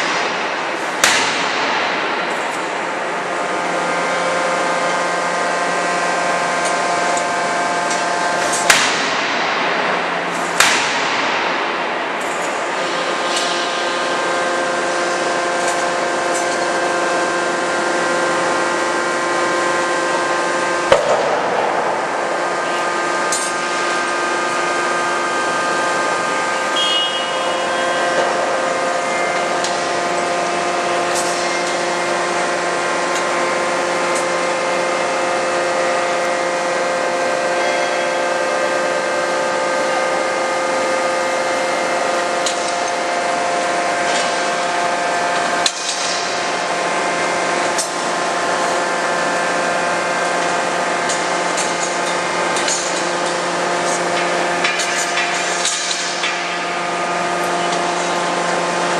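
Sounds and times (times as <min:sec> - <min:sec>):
hydraulic system drone: 0:00.0 - 0:58.9.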